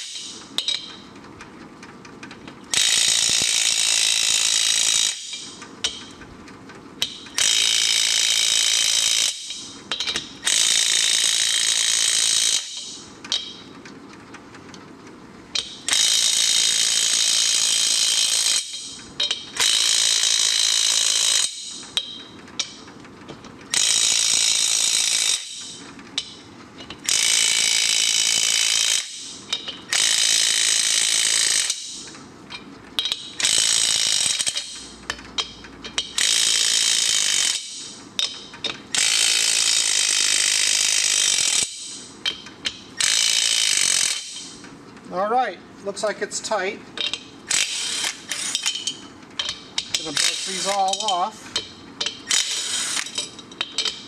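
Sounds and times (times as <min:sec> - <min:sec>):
impact wrench hammering: 0:00.0 - 0:01.0, 0:02.7 - 0:06.1, 0:07.0 - 0:13.7, 0:15.6 - 0:22.8, 0:23.7 - 0:32.1, 0:33.0 - 0:44.6, 0:47.0 - 0:54.0.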